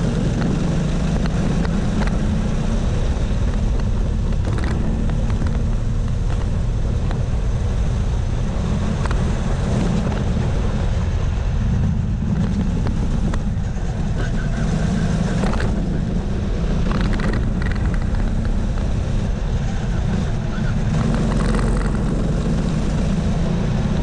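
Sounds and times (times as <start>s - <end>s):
go-kart engine running hard: 0.0s - 24.0s.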